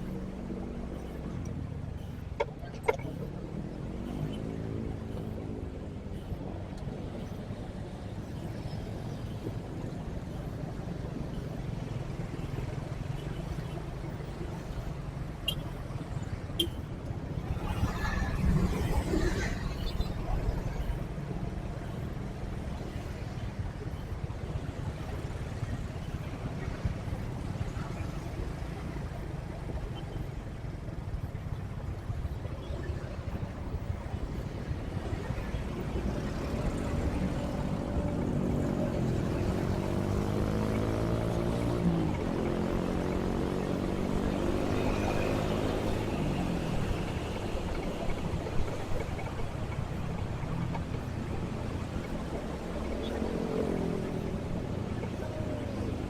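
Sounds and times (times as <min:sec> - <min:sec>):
engine hum: 0:00.0 - 0:56.0
road noise: 0:00.0 - 0:56.0.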